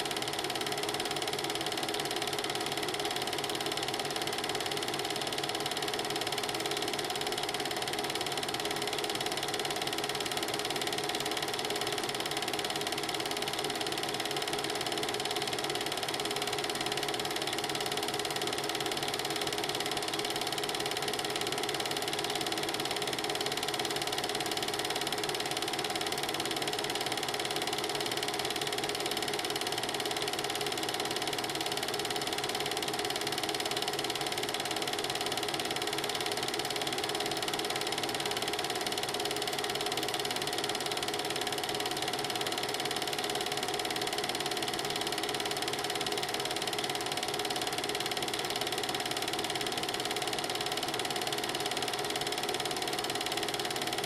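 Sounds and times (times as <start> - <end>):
film projector clattering: 0.0 - 54.0.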